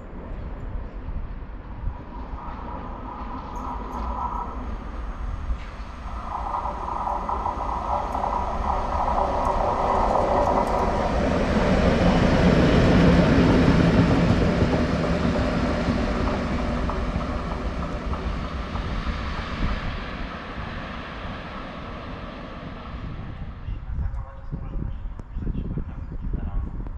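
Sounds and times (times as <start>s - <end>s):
electric locomotive braking: 2.2s - 24.3s.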